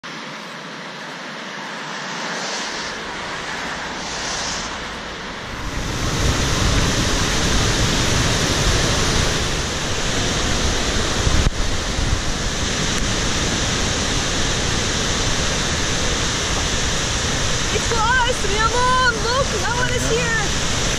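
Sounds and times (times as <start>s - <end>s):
waterfall rushing: 0.7s - 20.9s.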